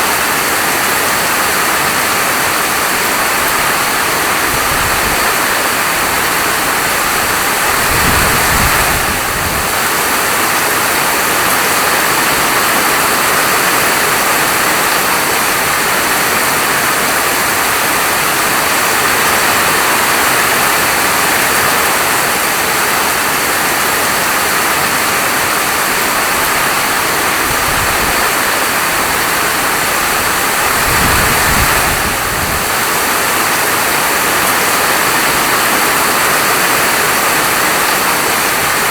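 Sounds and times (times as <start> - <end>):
dense rain falling: 0.0 - 38.9.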